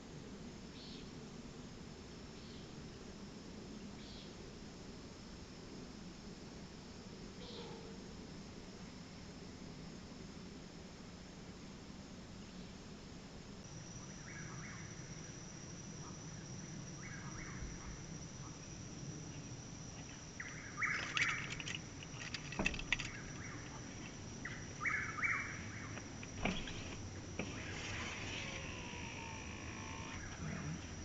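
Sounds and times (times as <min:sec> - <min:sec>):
insects whining: 0:00.0 - 0:31.0
buzzy insect trills: 0:00.1 - 0:31.0.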